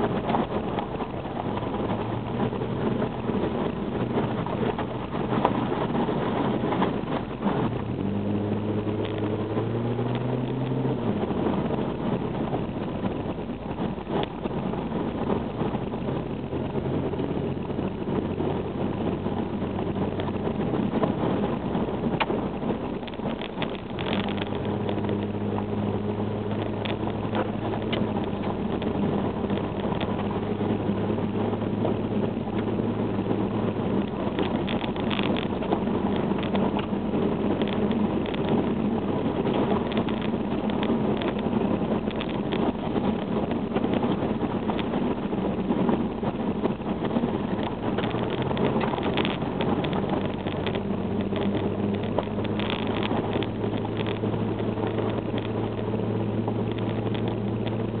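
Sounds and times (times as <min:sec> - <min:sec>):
car engine hum: 0:00.0 - 0:58.0
road rumble: 0:00.0 - 0:58.0.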